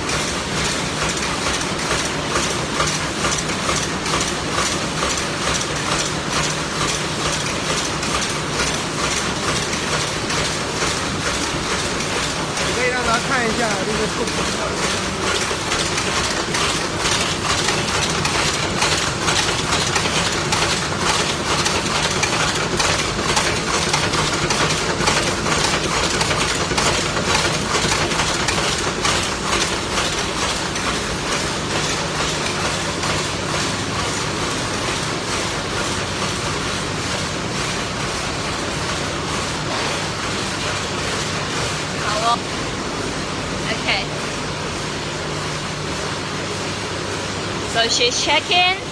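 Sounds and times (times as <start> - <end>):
machines clattering: 0.0 - 42.5.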